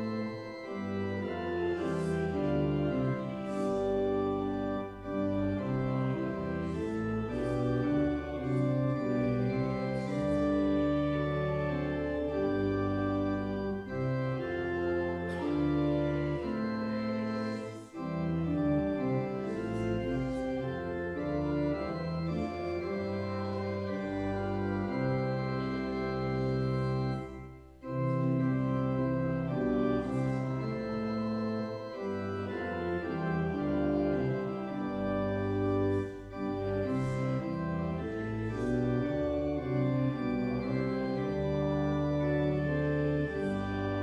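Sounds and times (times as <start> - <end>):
organ playing sustained chords: 0.0 - 44.0.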